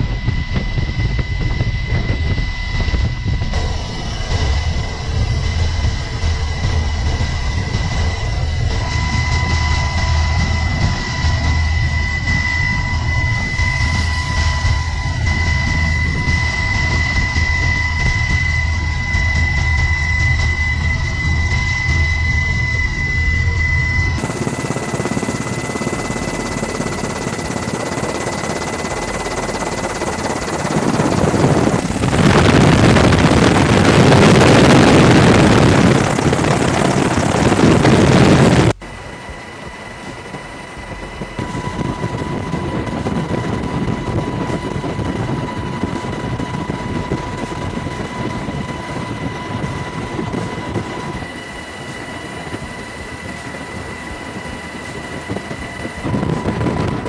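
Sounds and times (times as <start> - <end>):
helicopter engine and rotor: 0.0 - 57.0
wind: 0.0 - 57.0.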